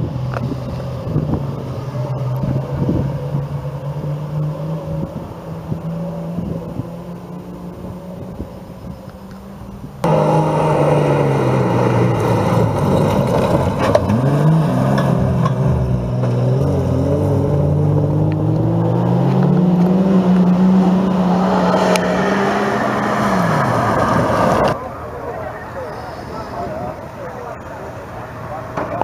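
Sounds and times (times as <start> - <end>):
truck engines at full throttle: 0.0 - 29.0.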